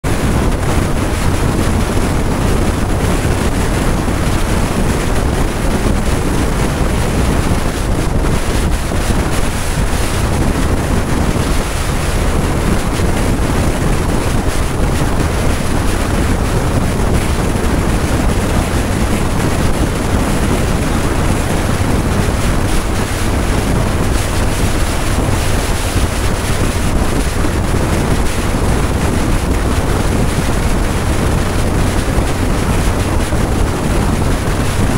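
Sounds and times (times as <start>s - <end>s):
low rumble: 0.0s - 34.9s
wind buffeting microphone: 0.0s - 34.9s.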